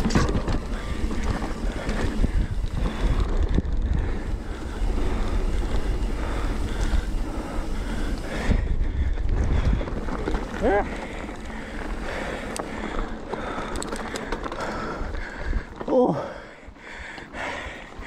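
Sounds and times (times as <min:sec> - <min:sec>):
wind buffeting microphone: 0:00.0 - 0:15.9
bike rattling over dirt trail: 0:00.0 - 0:18.0.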